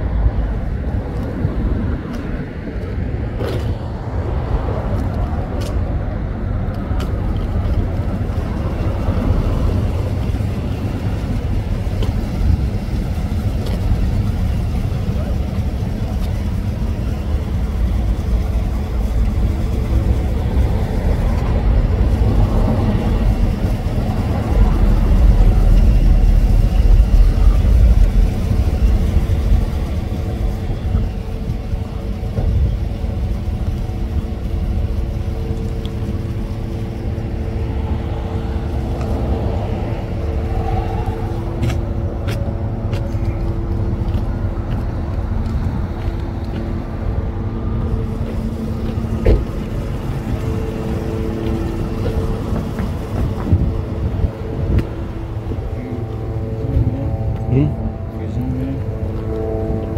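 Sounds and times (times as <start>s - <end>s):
car engine rumble: 0.0s - 59.9s.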